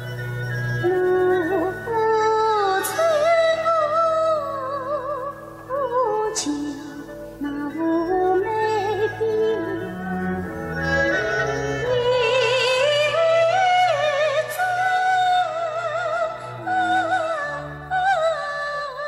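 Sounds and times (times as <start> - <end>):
bowed strings melody with vibrato: 0.0 - 19.0.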